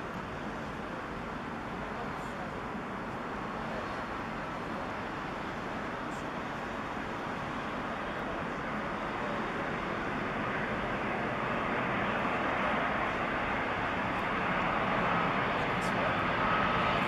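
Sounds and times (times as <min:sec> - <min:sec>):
faint jet engine whine: 0:00.0 - 0:17.0
jet engines rushing: 0:00.4 - 0:17.0.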